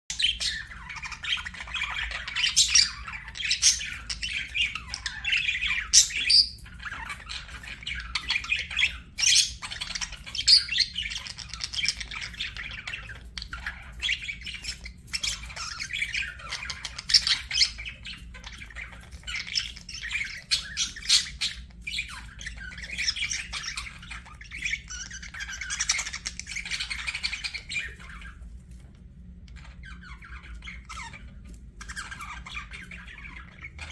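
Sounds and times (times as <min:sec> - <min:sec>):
budgerigars chattering: 0:00.1 - 0:28.4, 0:29.5 - 0:33.9.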